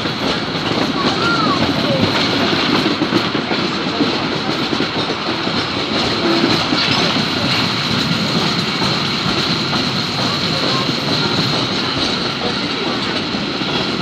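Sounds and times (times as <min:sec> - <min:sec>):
train wheels rumbling and rattling: 0:00.0 - 0:14.0.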